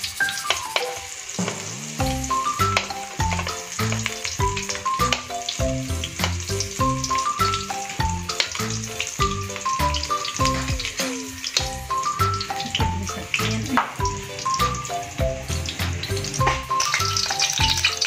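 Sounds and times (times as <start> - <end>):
vegetables sizzling in oil: 0.0 - 18.0
background music with beat: 0.5 - 18.0.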